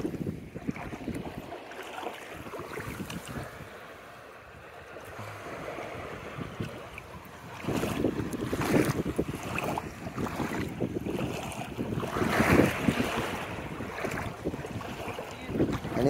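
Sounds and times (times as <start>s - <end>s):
wind noise on microphone: 0.0s - 1.6s, 2.3s - 3.8s, 5.0s - 16.0s
gentle surf at shoreline: 0.0s - 16.0s.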